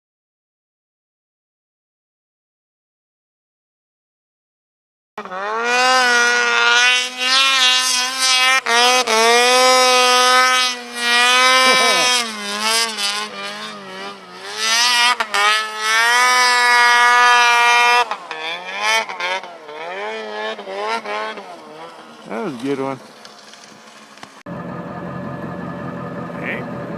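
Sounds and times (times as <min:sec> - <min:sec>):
vehicle engine revving: 0:05.2 - 0:26.9.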